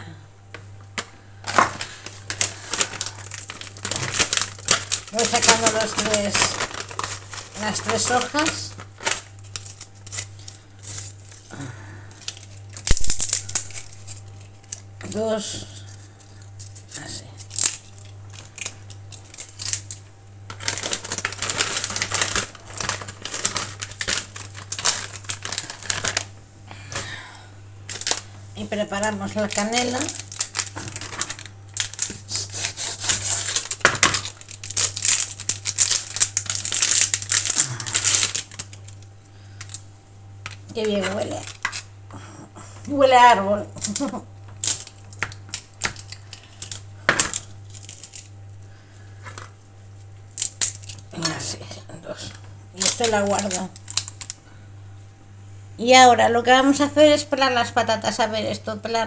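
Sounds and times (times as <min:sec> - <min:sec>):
steady low hum: 0:00.0 - 0:59.0
cinnamon stick crackling and snapping: 0:00.8 - 0:27.2, 0:27.9 - 0:42.2, 0:43.6 - 0:54.6
plastic packet crinkling: 0:00.9 - 0:27.2, 0:27.9 - 0:42.0, 0:42.9 - 0:54.5.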